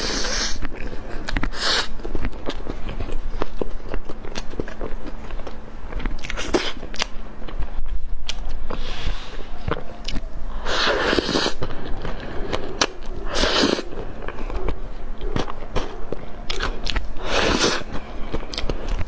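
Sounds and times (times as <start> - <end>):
biting into soft cake: 0.0 - 19.0.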